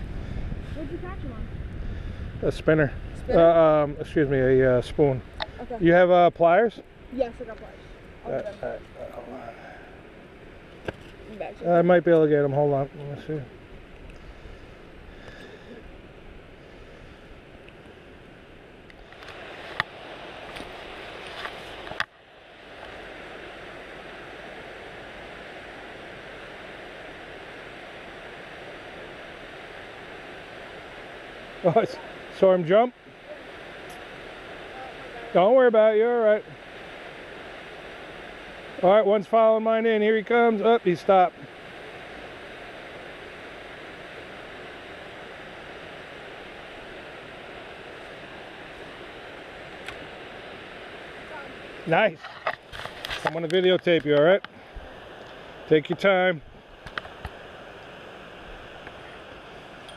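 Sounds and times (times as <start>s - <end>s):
steady hiss: 0.0s - 59.9s
steady rushing noise: 0.0s - 59.9s.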